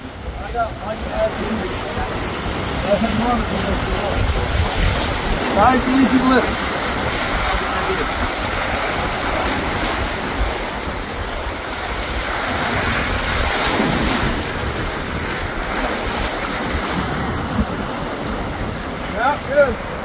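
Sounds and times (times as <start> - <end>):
waves breaking over rocks: 0.0 - 20.0
wind buffeting microphone: 0.0 - 20.0.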